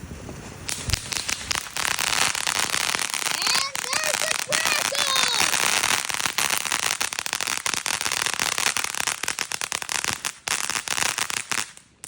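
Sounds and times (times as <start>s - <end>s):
firework crackling: 0.0s - 12.0s.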